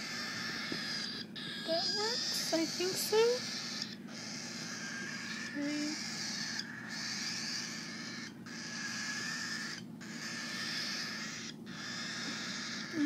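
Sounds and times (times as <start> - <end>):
chicks rasping begging calls: 0.0 - 13.0.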